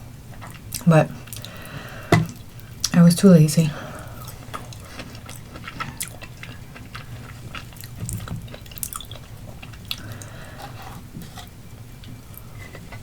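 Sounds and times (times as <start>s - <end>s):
chewing soft food: 0.3s - 3.0s, 3.8s - 13.0s.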